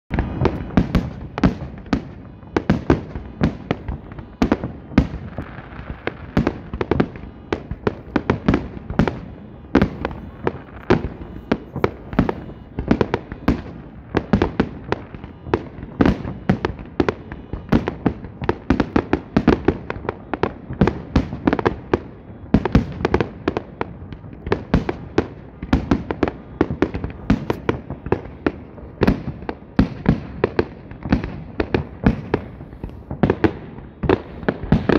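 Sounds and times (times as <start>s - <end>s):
fireworks bursting with sharp bangs: 0.1s - 34.9s.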